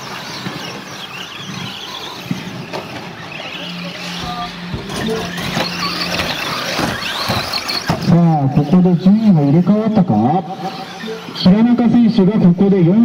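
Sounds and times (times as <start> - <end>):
electric motor whines: 0.0 - 13.0
steady low hum: 0.0 - 13.0
tyre and chassis noise: 0.0 - 13.0.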